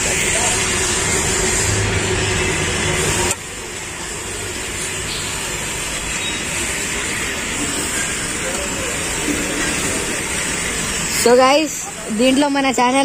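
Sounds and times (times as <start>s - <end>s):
street background hum: 0.0s - 13.0s.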